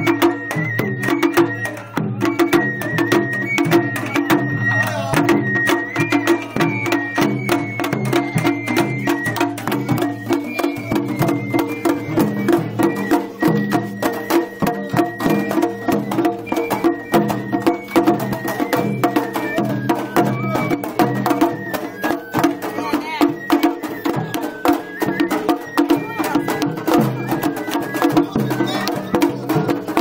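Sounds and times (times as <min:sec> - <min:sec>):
high flute melody: 0:00.0 - 0:30.0
rapid drum and gong strikes: 0:00.0 - 0:30.0.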